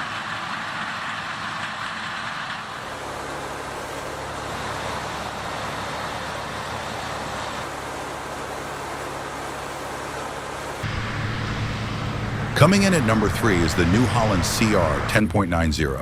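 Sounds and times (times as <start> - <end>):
combine harvester running: 0.0 - 15.8.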